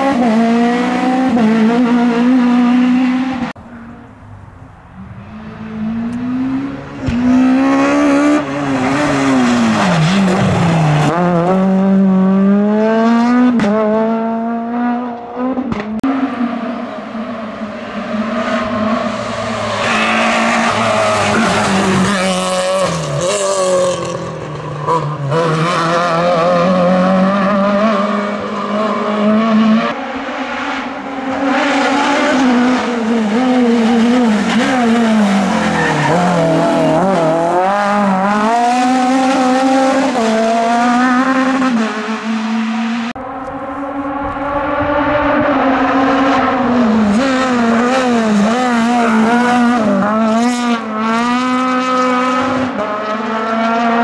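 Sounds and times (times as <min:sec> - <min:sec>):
rally car engines at high revs: 0:00.0 - 0:03.6, 0:05.2 - 0:54.0.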